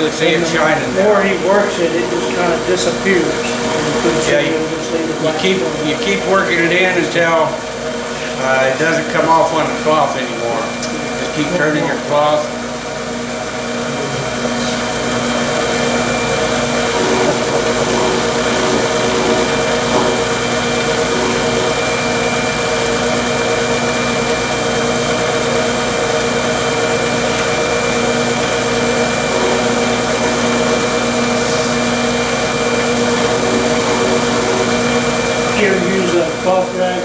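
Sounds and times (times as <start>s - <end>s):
wood lathe motor humming: 0.0s - 37.0s.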